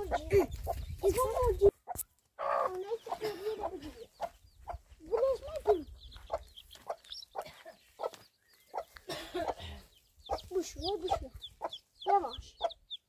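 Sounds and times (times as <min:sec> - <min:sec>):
hen clucking: 0:00.0 - 0:13.0.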